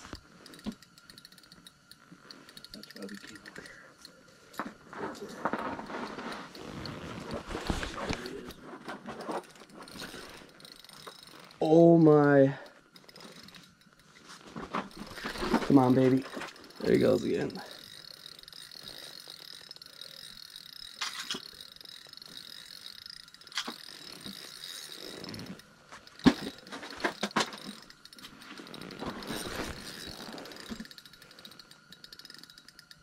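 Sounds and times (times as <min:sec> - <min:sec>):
fishing reel drag clicking: 0:00.0 - 0:33.0
reel handling clicks and knocks: 0:00.0 - 0:33.0.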